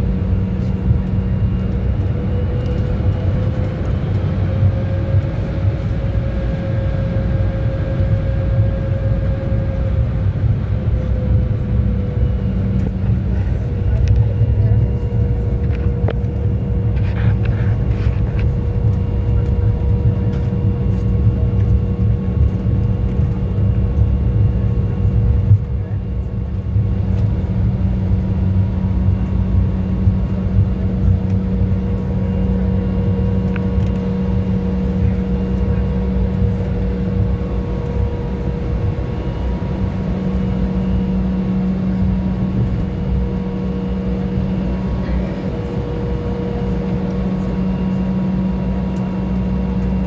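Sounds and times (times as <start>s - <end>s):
low rumble: 0.0s - 49.8s
jet engines droning in cabin: 0.0s - 50.0s.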